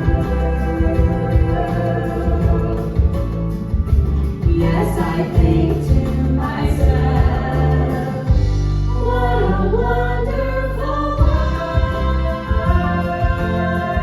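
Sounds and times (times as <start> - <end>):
person singing: 0.0 - 3.4, 4.3 - 14.0
music with bass beat: 0.0 - 14.0.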